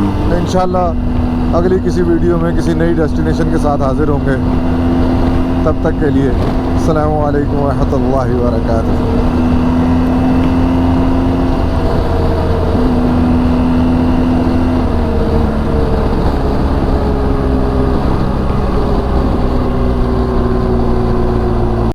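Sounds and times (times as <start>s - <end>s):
motorcycle engine cruising: 0.0s - 21.9s
road noise: 0.0s - 21.9s
wind noise: 0.0s - 21.9s.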